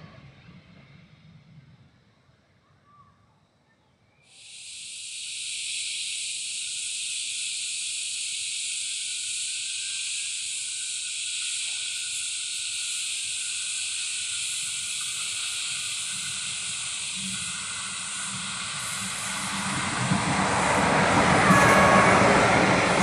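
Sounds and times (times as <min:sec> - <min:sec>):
cicada chorus hissing: 0:04.2 - 0:23.0.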